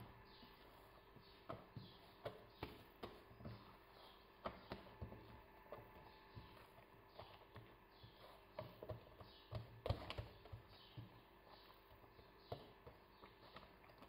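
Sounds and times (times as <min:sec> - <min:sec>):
hands patting dough: 0:00.0 - 0:14.0.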